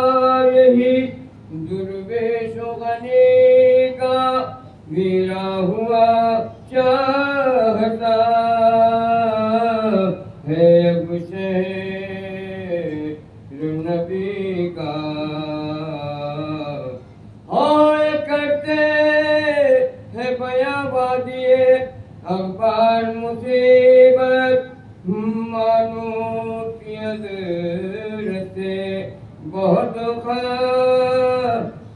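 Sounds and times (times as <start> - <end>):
man chanting unaccompanied: 0.0 - 31.9.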